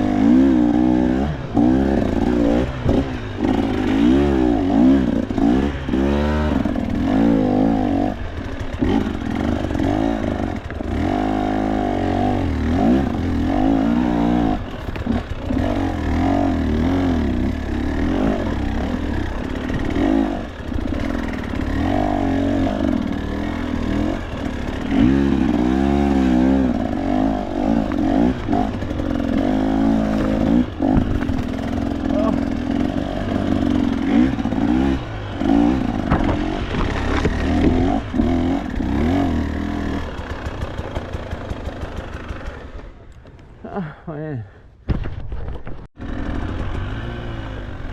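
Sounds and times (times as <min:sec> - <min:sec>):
dirt bike engine revving: 0:00.0 - 0:43.0, 0:46.0 - 0:47.9.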